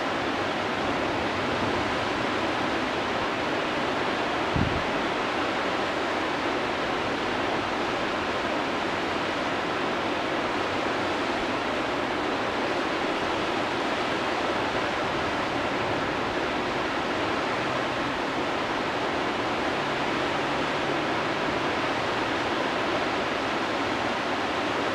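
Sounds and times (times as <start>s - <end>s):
whitewater rapids rushing: 0.0s - 24.9s.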